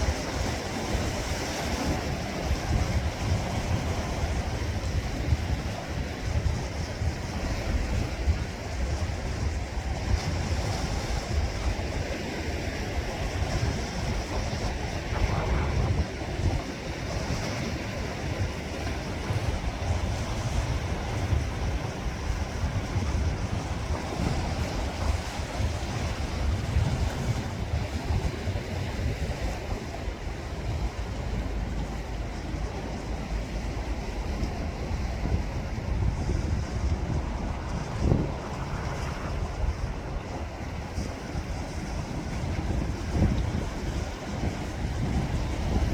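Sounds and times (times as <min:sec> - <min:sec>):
sea waves washing on shore: 0:00.0 - 0:45.9
wind buffeting microphone: 0:00.0 - 0:45.9.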